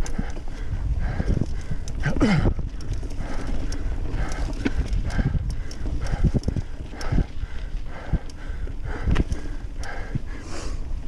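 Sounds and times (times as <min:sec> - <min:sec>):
bike clattering over rough trail: 0:00.0 - 0:11.0.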